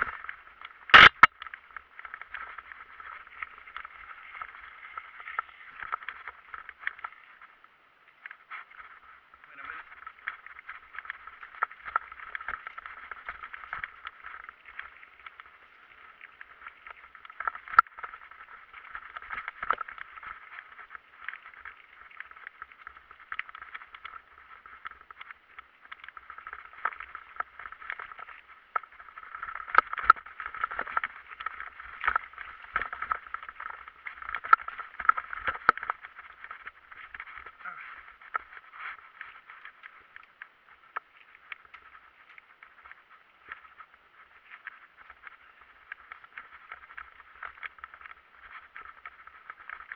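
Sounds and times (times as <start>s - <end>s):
bicycle rattling over rough ground: 0.0s - 49.9s.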